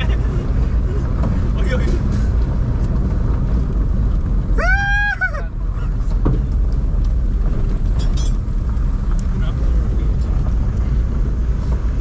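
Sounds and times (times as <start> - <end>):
wind and road noise rumble: 0.0 - 12.0.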